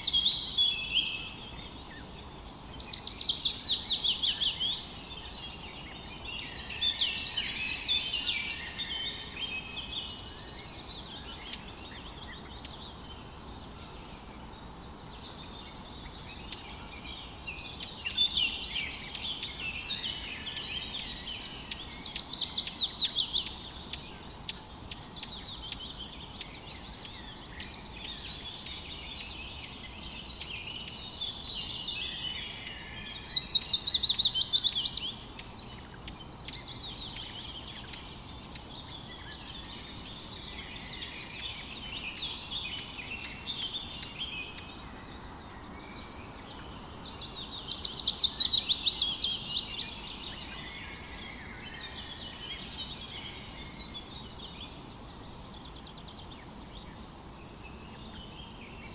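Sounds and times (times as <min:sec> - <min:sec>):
faint hiss: 0:00.0 - 0:58.9
songbirds singing: 0:00.0 - 0:58.9.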